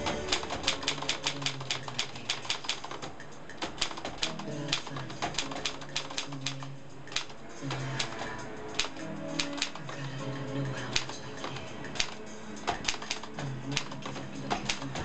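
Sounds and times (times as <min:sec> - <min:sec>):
manual typewriter clacking: 0:00.0 - 0:15.0.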